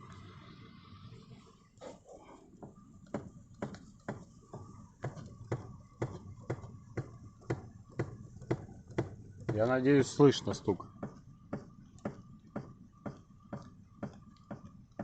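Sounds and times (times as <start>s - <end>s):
steering column knocking: 2.6s - 15.0s.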